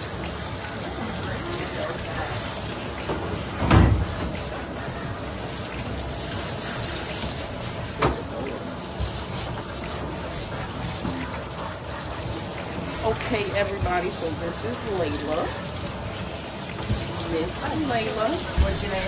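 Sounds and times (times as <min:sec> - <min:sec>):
water spraying from hose: 0:00.0 - 0:19.0.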